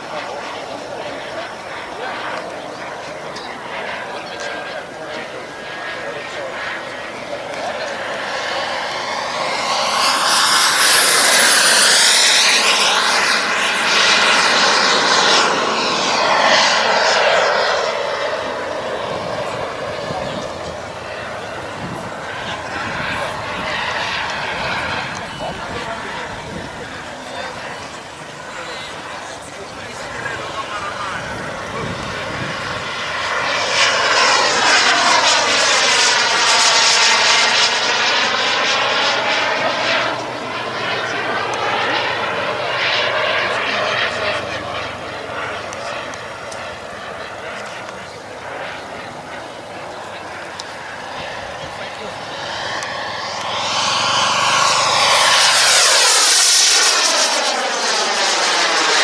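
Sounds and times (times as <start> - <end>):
model jet turbine flying past: 0.0 - 59.0.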